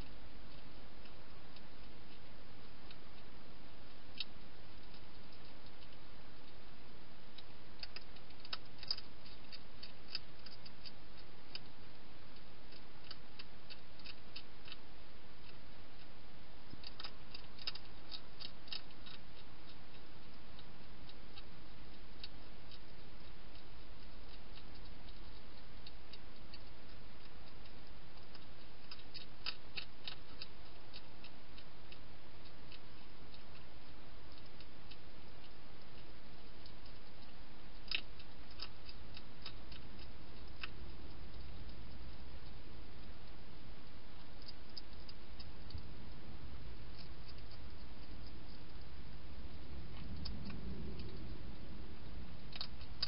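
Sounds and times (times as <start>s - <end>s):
background hiss: 0.0s - 53.0s
hedgehog crunching dry food: 0.0s - 53.0s.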